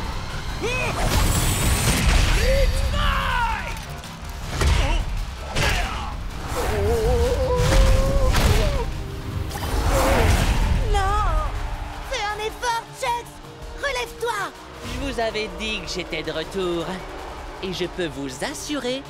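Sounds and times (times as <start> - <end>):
dramatic score music: 0.0 - 19.0.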